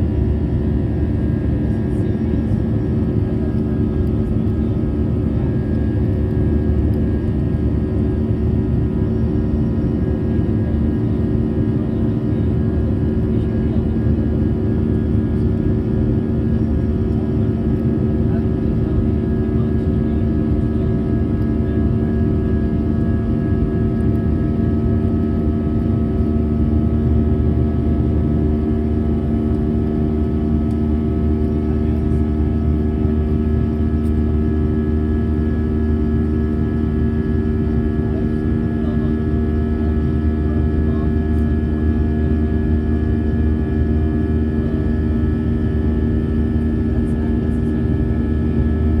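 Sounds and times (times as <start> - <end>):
jet engine cabin drone: 0.0 - 49.0.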